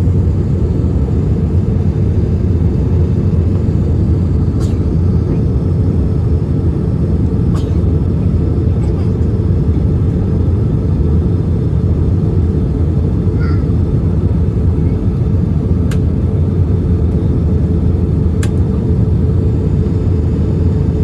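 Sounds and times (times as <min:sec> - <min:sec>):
airplane engine drone in cabin: 0:00.0 - 0:21.0.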